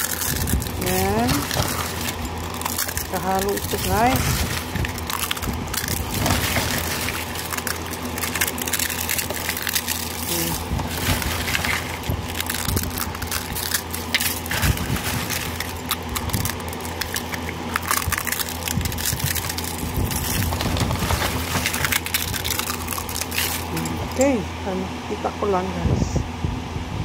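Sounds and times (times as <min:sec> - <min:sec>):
eggshells crackling and crunching: 0:00.0 - 0:24.4.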